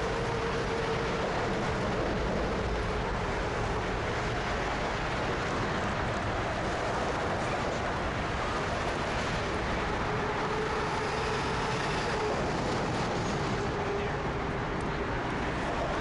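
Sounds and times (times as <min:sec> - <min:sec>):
turboprop engines roaring: 0:00.0 - 0:16.0.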